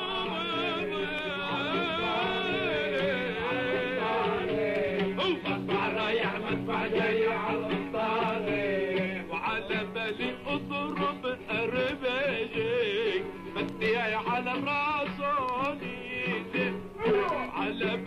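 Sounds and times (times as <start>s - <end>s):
ornamented melody singing: 0.0s - 18.0s.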